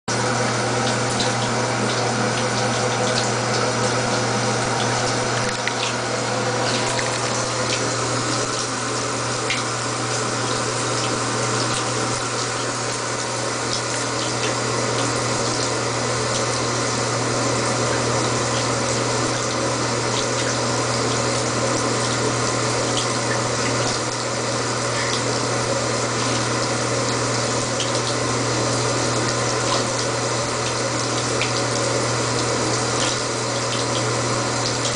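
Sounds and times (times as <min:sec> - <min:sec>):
water pouring from tub spout: 0:00.1 - 0:34.9.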